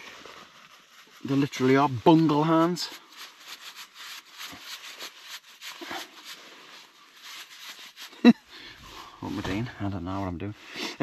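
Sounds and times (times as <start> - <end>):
down jacket rustling: 0.0 - 11.0
insulated gloves rustling: 0.0 - 11.0.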